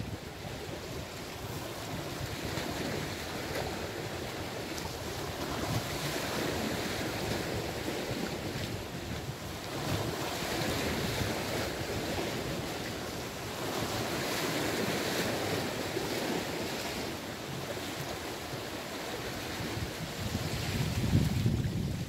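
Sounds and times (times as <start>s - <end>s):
waves breaking against rocks: 0.0s - 22.0s
wind buffeting microphone: 0.0s - 22.0s.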